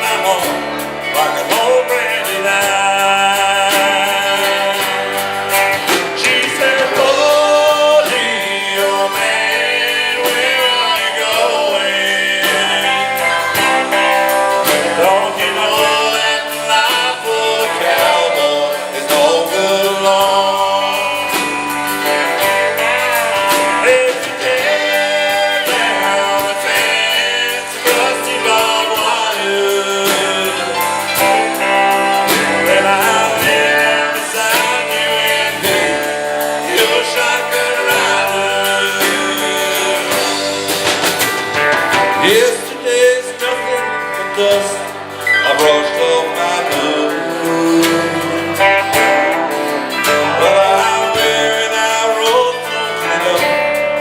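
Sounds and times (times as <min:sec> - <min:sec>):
live country band playing: 0:00.0 - 0:54.0
person singing: 0:00.0 - 0:54.0.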